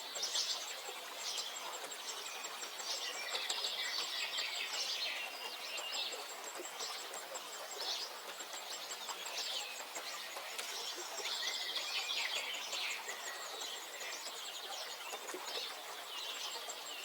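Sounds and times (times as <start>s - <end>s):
countryside background hiss: 0.0s - 17.0s
songbirds chirping: 0.0s - 17.0s.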